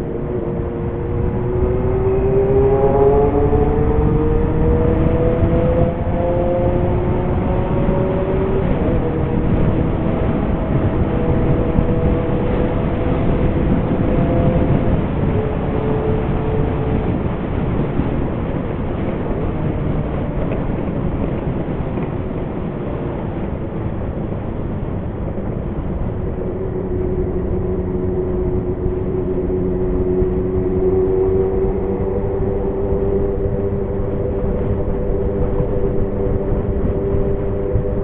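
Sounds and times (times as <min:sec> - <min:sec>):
motorcycle engine accelerating: 0:00.0 - 0:21.4, 0:24.9 - 0:38.0
wind noise: 0:00.0 - 0:38.0.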